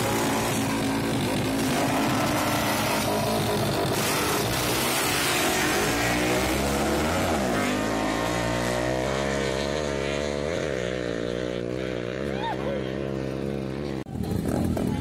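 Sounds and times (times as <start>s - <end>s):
motorcycles accelerating at full throttle: 0.0s - 15.0s.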